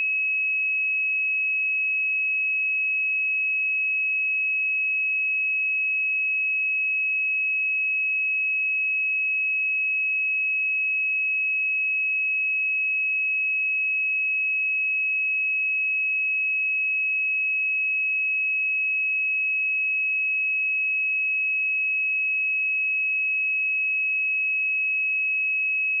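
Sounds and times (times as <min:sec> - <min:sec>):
sine-wave test tone: 0:00.1 - 0:26.0.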